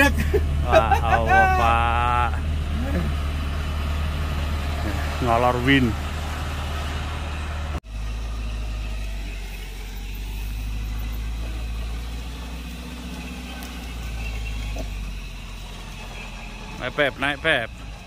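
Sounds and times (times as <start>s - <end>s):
engine rumbling steadily: 0.0s - 18.0s.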